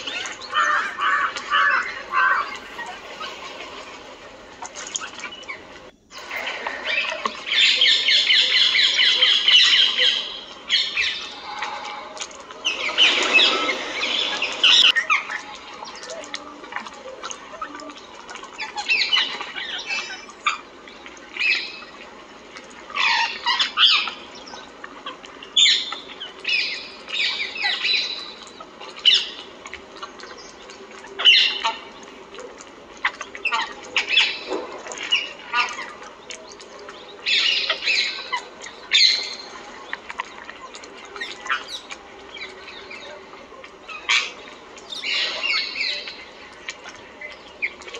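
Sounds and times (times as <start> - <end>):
wild birds squawking and chirping: 0.0 - 47.9.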